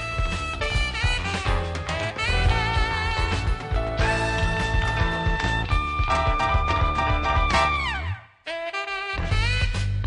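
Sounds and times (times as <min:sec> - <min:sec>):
drums: 0:00.0 - 0:08.0, 0:09.0 - 0:10.0
bass: 0:00.0 - 0:10.0
tenor saxophone holding notes: 0:00.0 - 0:10.0.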